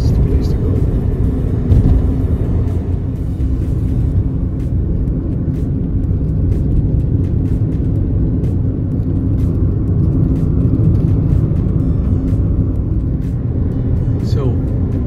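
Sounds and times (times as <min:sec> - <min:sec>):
car tyre and engine rumble: 0:00.0 - 0:15.0.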